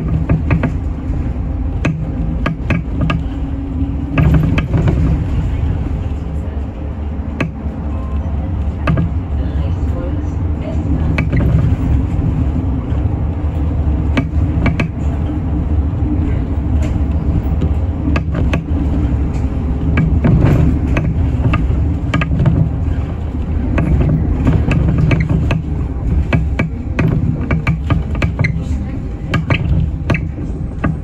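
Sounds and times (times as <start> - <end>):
bus engine rumble: 0.0 - 31.0
clicks and rattles in bus interior: 0.0 - 31.0.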